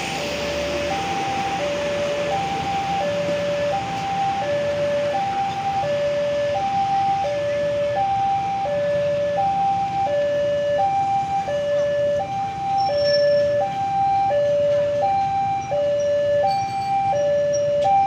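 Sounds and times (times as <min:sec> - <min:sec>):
higher pitched crossing alarm: 0:00.0 - 0:18.0
train coaches rumbling past: 0:00.0 - 0:18.0
level crossing alarm two-tone: 0:00.1 - 0:18.0.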